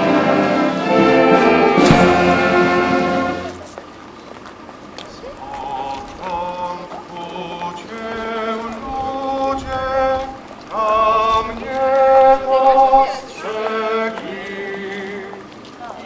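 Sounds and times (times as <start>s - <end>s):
pilgrims singing a slow hymn: 0.0s - 3.6s, 5.5s - 15.6s.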